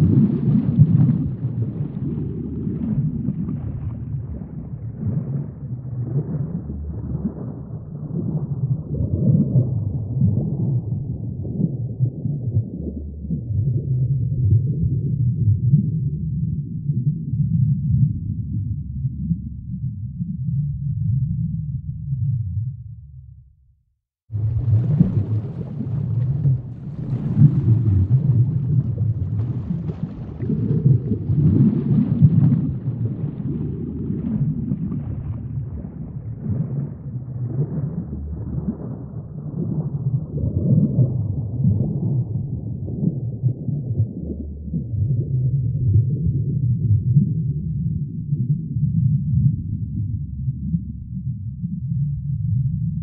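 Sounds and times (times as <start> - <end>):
muffled rumble of moving water: 0.0 - 23.6, 24.2 - 53.0.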